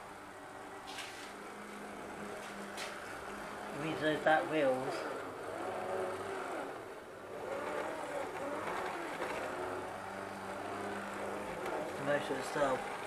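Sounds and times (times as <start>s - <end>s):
model train motor hum: 0.0s - 13.0s
whirr wavering in pitch: 0.0s - 13.0s.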